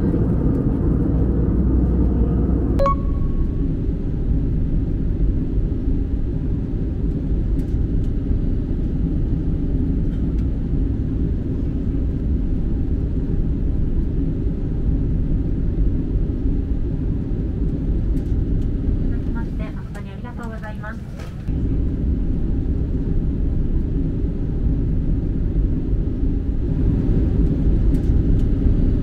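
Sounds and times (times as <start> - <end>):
cabin air supply rumble: 0.0 - 29.0.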